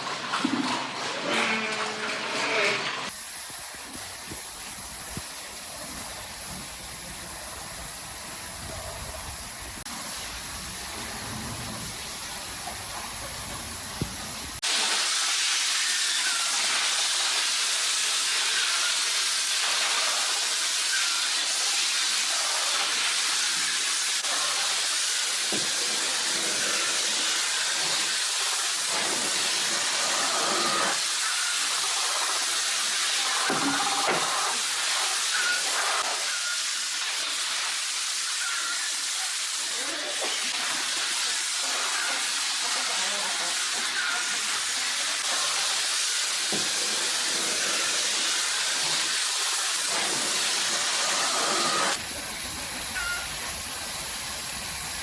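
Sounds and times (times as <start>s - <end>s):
spraying water hiss: 3.1s - 55.0s.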